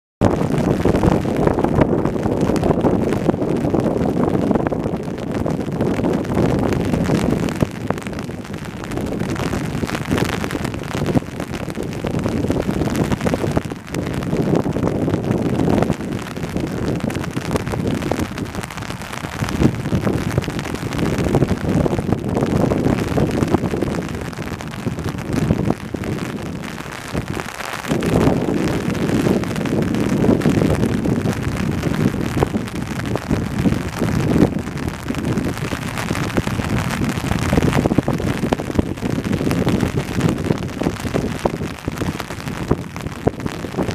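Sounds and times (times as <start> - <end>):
rain shower: 0.2 - 43.9
wind buffeting microphone: 0.2 - 43.9.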